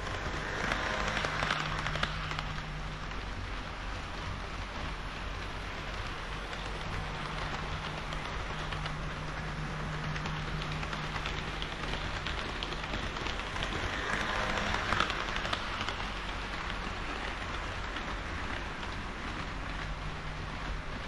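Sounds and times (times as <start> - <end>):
model train wheels clattering: 0.0 - 21.0.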